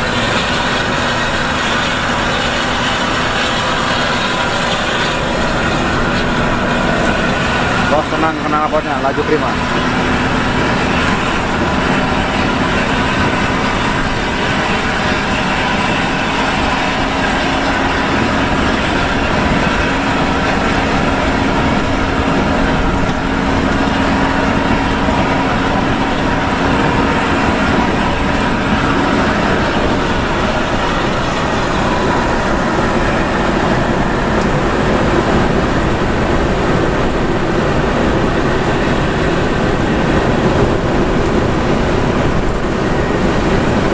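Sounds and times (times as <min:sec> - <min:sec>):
engine and tyre rumble on wet road: 0:00.0 - 0:43.9
steady engine hum: 0:00.0 - 0:43.9.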